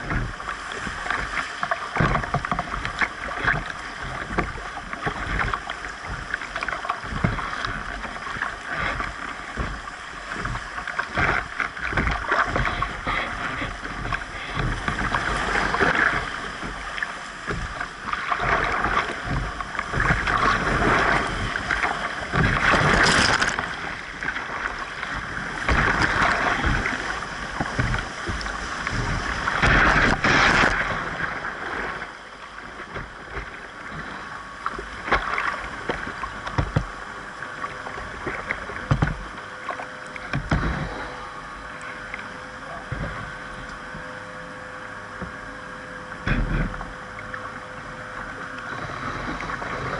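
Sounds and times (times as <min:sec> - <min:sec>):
whitewater rushing and splashing: 0:00.0 - 0:42.2.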